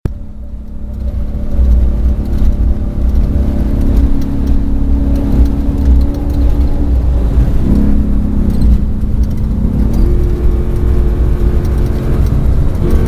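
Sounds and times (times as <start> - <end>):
low rumble and buffeting: 0.1 - 13.0
truck engine drone: 0.1 - 13.0
rattling clicks: 0.6 - 13.0.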